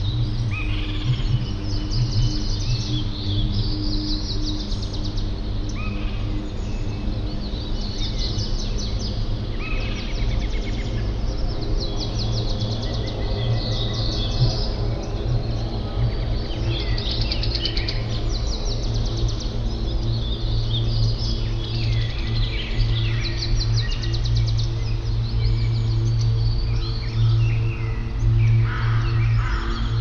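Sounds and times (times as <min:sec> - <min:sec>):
birds trilling and chirping: 0:00.0 - 0:30.0.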